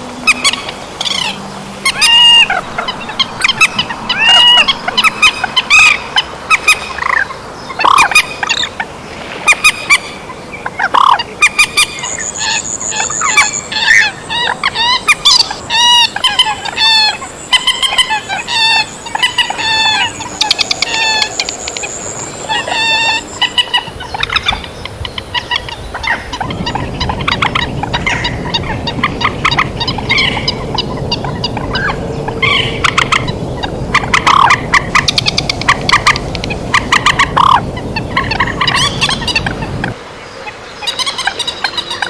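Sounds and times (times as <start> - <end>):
flock of birds calling: 0.0 - 42.0.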